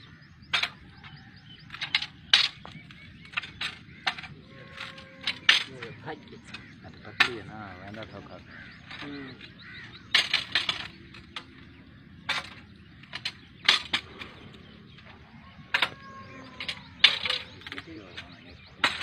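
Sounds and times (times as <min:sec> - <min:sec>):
metal climbing frame clanking on trunk: 0:00.1 - 0:19.0.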